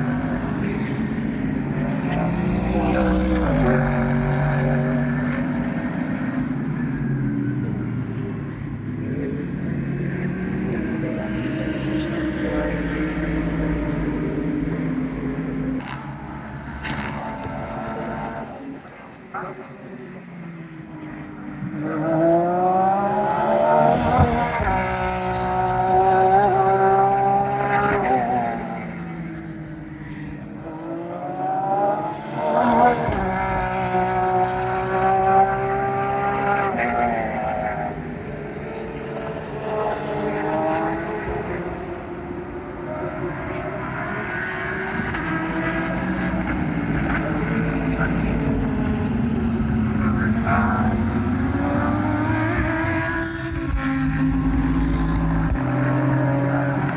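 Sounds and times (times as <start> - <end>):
race cars passing: 0.0 - 56.9.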